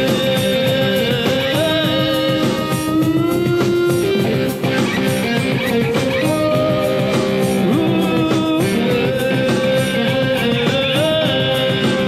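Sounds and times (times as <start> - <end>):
drums: 0.0 - 12.0
keyboards: 0.0 - 12.0
lead melody: 0.0 - 12.0.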